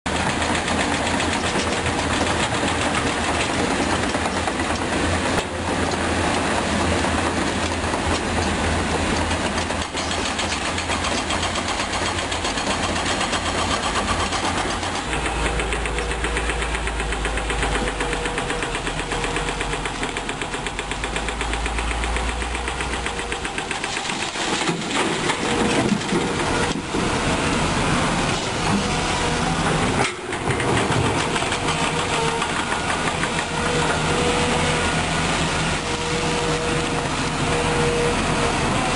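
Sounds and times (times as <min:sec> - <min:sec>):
sharp knocks and clatters: 0:00.1 - 0:27.1, 0:29.8 - 0:34.4
diesel engines droning: 0:00.1 - 0:38.9.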